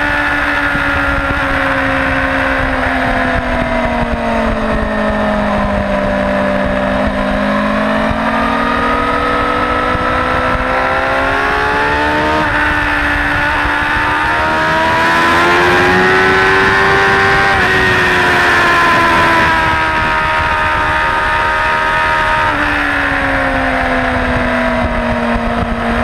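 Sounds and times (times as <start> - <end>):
motorcycle engine revving: 0.0 - 26.0
wind rush: 0.0 - 26.0.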